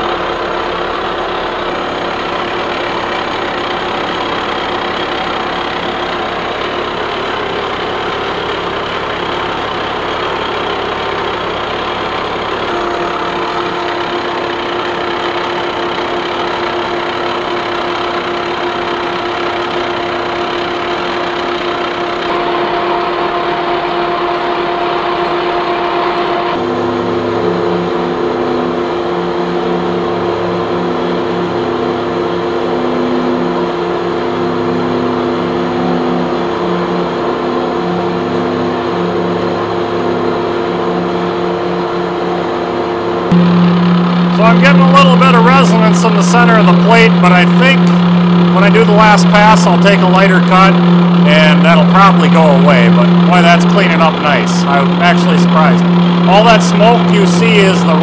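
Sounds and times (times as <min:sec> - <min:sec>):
milling machine drone: 0:00.0 - 0:58.0
steady higher hum: 0:00.0 - 0:58.0
low uneven note: 0:10.2 - 0:58.0.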